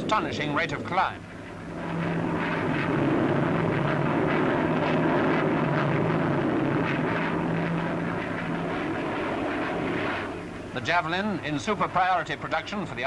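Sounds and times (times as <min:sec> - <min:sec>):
jet engine rushing: 0:00.0 - 0:13.0
low hum: 0:00.0 - 0:13.0.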